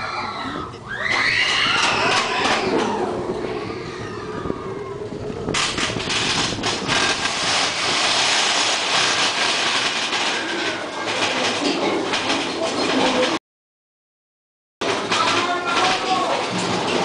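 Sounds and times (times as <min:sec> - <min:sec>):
roller coaster rushing and rattling: 0:00.2 - 0:13.4, 0:14.8 - 0:17.0
roller coaster clattering on track: 0:00.7 - 0:13.4, 0:14.8 - 0:17.0.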